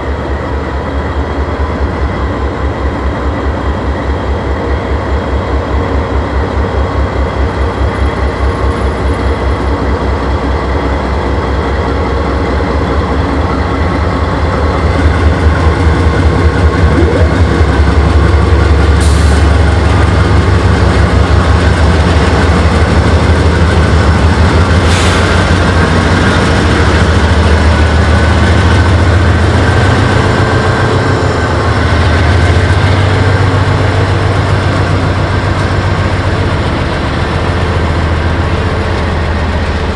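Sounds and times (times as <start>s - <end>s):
diesel locomotive engine exhaust: 0.0s - 39.9s.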